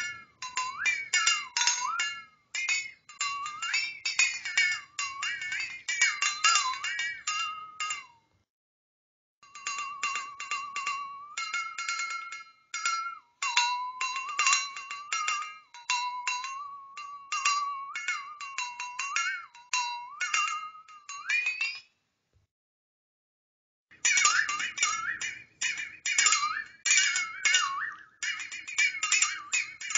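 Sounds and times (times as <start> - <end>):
flexatone rattling: 0.0 - 8.4, 9.4 - 22.0, 24.0 - 29.9.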